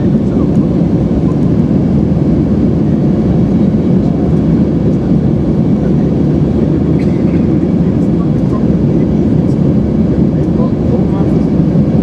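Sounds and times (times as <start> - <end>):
jet engine rumble in cabin: 0.0 - 12.0.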